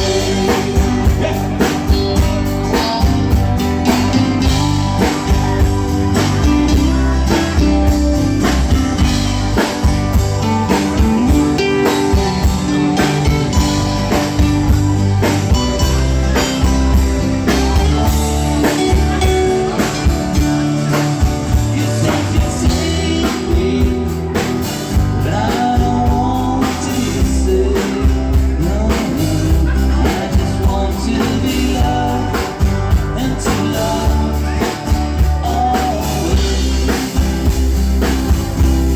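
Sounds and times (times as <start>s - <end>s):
bass guitar: 0.0s - 38.9s
drum kit beat: 0.0s - 38.9s
electric guitar melody: 0.0s - 38.9s.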